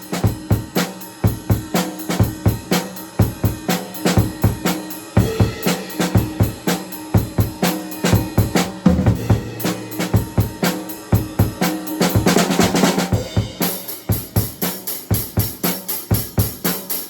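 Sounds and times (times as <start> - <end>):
acoustic drum kit beat: 0.0 - 17.0.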